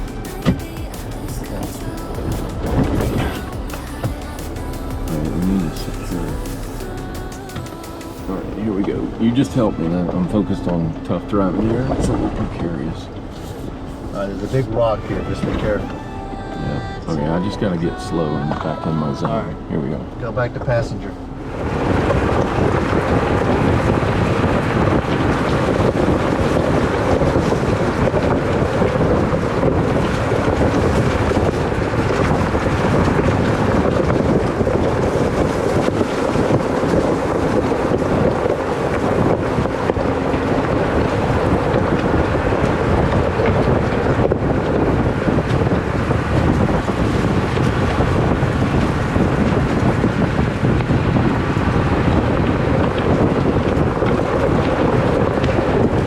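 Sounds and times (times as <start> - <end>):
jeep engine running: 0.0 - 56.0
wind noise on microphone: 0.0 - 56.0.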